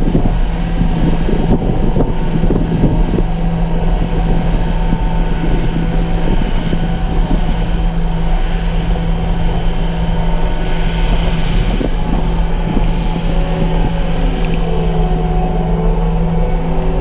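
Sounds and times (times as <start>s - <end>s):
diesel engine running: 0.0s - 17.0s
wind on microphone: 0.0s - 17.0s.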